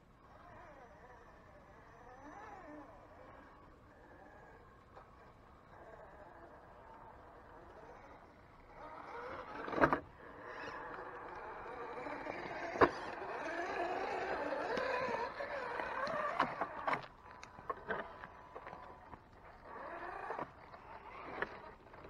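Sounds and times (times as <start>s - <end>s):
toy car electric motors whining: 0.2s - 22.0s.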